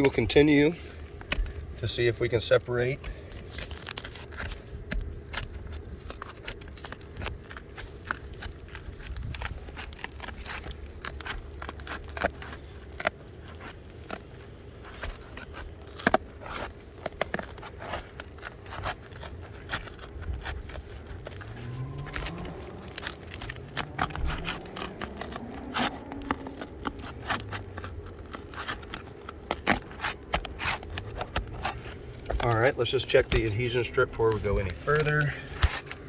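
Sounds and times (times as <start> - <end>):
roof shingle crackling and scraping: 0.0 - 36.0
shingle mat tearing: 0.0 - 36.0.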